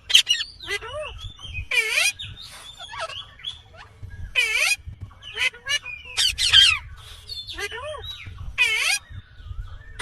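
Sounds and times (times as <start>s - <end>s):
parakeet calling: 0.0s - 9.2s.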